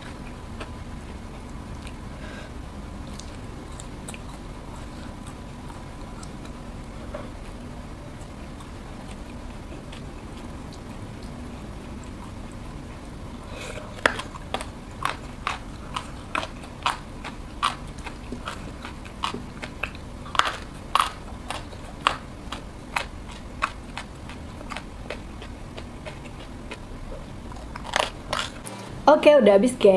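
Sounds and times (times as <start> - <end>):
person chewing crunchy food: 0.0 - 28.8.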